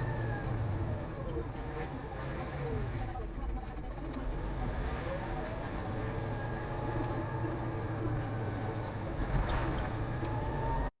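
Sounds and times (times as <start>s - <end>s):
truck diesel engine rumbling: 0.0s - 10.9s.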